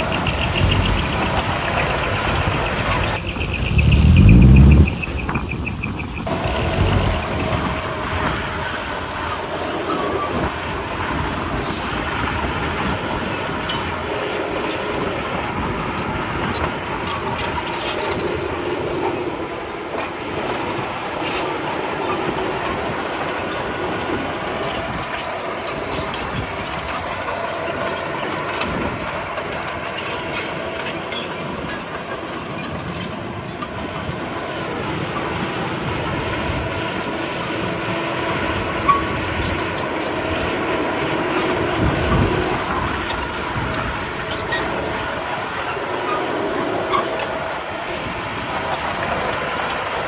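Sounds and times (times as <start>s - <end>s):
bulldozer engine running: 0.0s - 50.0s
steel tracks clanking and squealing: 0.0s - 50.0s.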